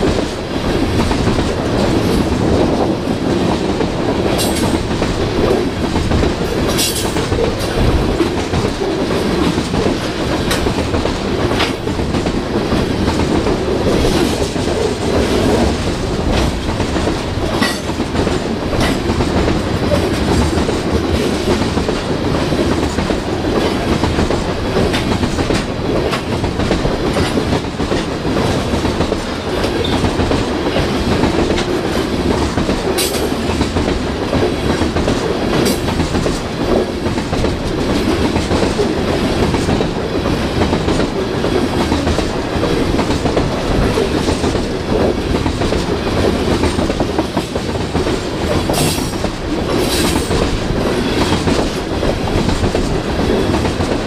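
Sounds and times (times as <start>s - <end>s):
clicks and clacks: 0.0s - 54.0s
train wheels rumbling on rail: 0.0s - 54.0s.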